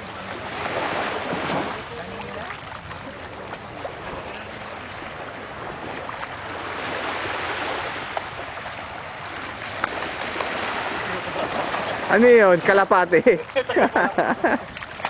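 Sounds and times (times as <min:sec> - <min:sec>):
small waves washing onto sand: 0:00.0 - 0:15.0.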